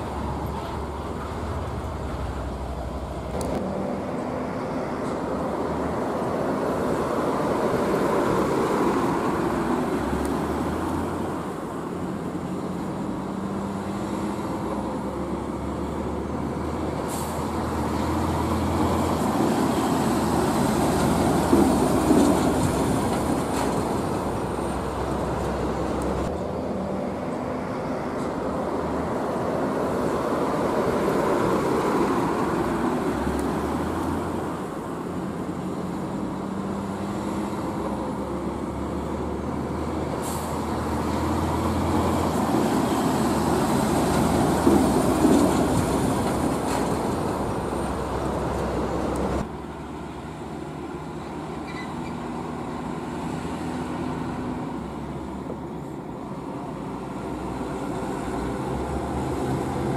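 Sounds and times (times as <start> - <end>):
heavy diesel trucks passing: 0.0 - 59.9.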